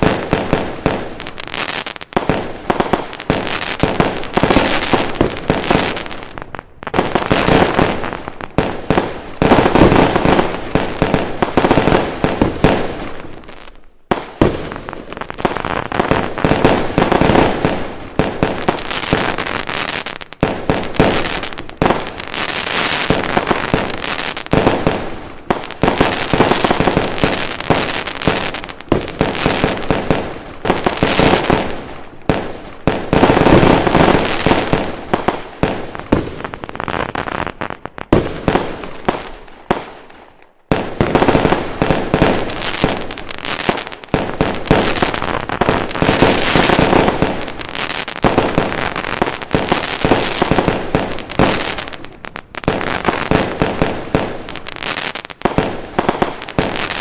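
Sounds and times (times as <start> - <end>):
fireworks bangs and pops: 0.0 - 57.0.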